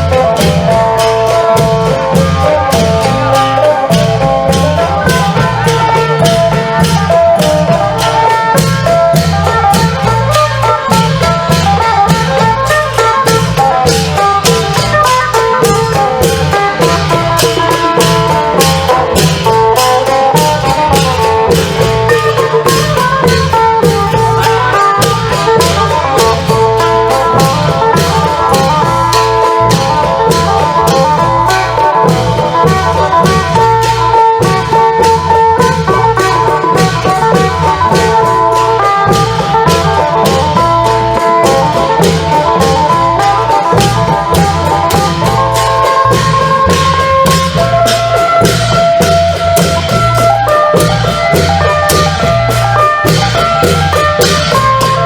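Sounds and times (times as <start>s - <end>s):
long drums playing fast rhythm: 0.0s - 55.0s
lute melody: 0.0s - 55.0s.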